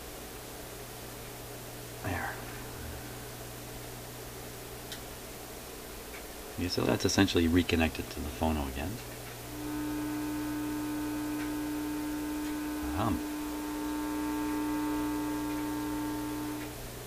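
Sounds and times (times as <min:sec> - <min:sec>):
speaker mains hum: 0:00.0 - 0:17.0.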